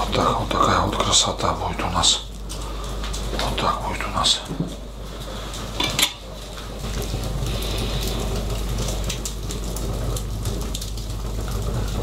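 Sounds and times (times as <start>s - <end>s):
wood fire crackling and hissing: 0.0s - 12.0s.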